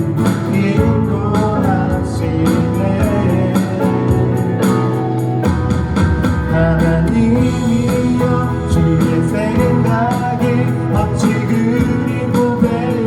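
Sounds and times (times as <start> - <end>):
guitar-led accompaniment: 0.0 - 13.0
person singing: 0.0 - 13.0.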